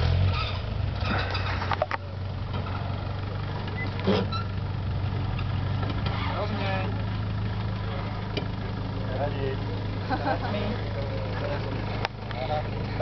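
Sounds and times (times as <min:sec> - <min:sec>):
van engine at low revs: 0:00.0 - 0:13.0.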